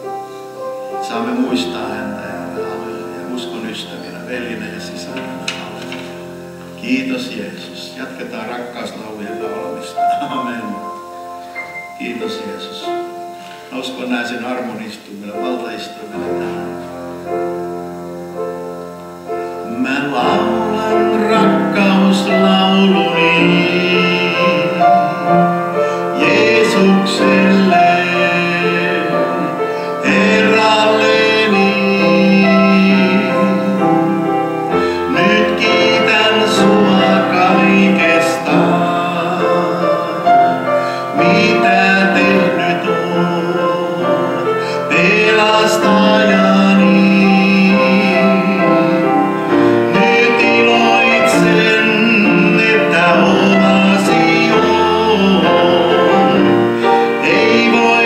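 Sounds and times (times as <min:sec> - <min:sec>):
person singing: 0:00.0 - 0:17.3, 0:19.2 - 0:58.0
keyboard sustained chords: 0:00.0 - 0:58.0.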